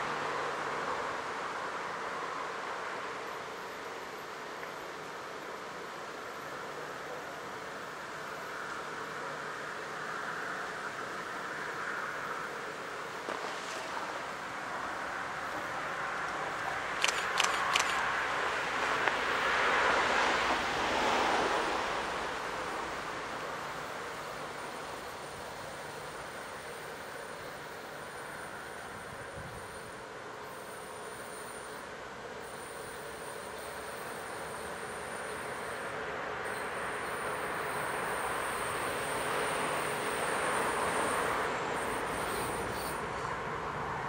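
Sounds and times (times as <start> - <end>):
wheels on rail hiss: 0.0 - 44.0
diesel locomotive approaching: 5.0 - 44.0.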